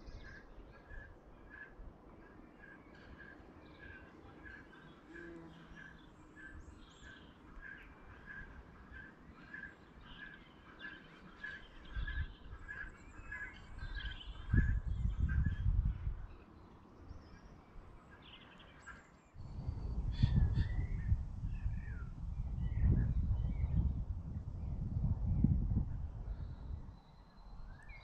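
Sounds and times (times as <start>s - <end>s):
birds chirping: 0.0s - 23.8s.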